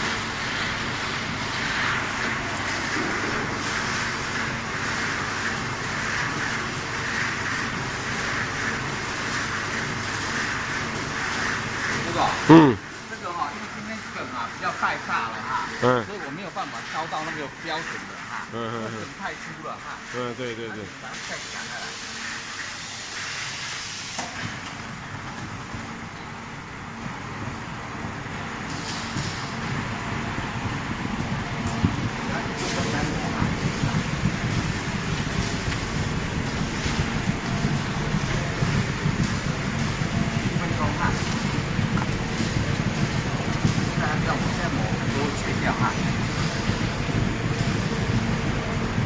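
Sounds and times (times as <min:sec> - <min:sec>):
tea leaves tumbling in roaster: 0:00.0 - 0:49.0.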